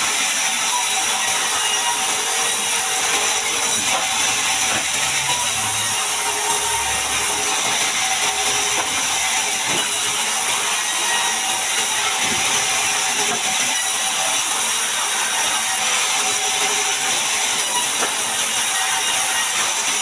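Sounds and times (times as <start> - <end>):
band saw sawing log: 0.0 - 20.0.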